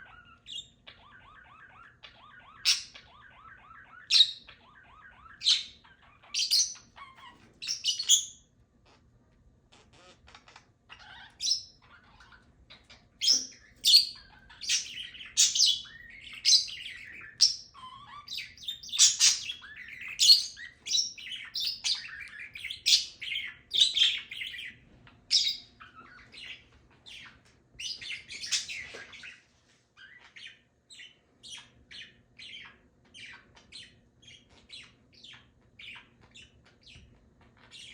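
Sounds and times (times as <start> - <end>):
parrots chirping and squawking: 0.0 - 9.1, 9.7 - 37.9.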